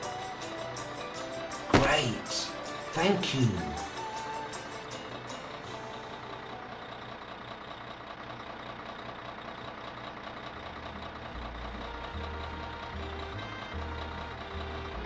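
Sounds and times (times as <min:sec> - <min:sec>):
cartoon truck engine running: 0:00.0 - 0:15.0.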